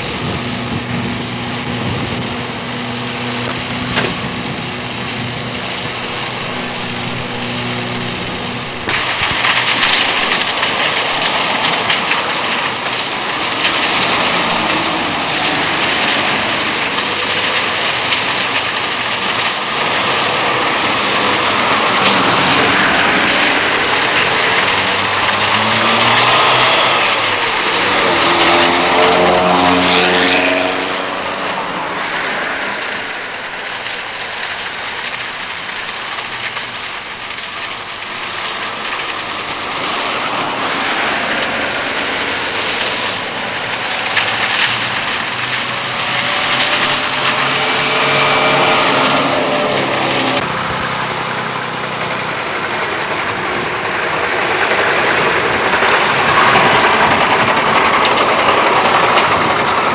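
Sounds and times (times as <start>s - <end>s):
engine running: 0.0s - 59.9s
steady rushing noise: 0.0s - 59.9s.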